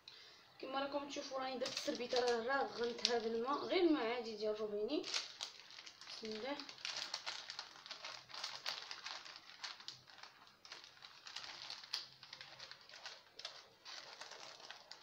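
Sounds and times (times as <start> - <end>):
paper and towel rustling: 1.6 - 3.8, 4.9 - 15.0.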